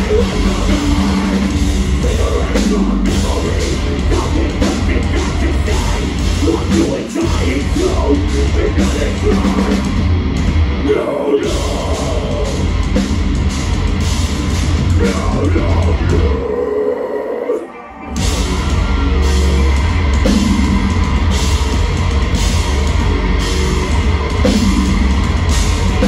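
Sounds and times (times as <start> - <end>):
vocals: 0.0 - 13.5, 14.6 - 23.0
metal band playing live: 0.0 - 26.0.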